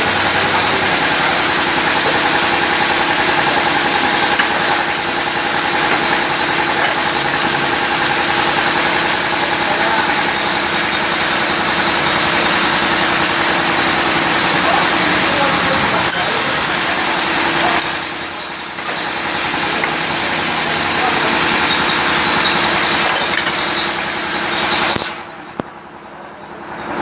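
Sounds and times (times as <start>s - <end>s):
block machine vibrating rattle: 0.0s - 25.6s.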